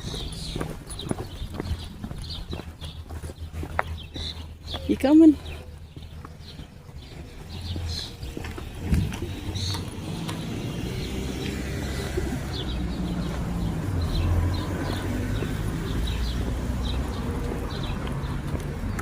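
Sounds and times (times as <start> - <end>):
small birds chirping: 0.0 - 19.0
vehicle engine rumble: 0.0 - 19.0.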